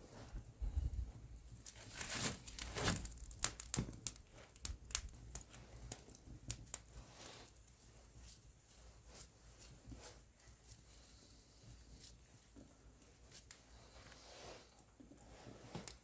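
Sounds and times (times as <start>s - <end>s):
rustling: 0.1s - 16.0s
small clicks and scrapes: 1.5s - 16.0s.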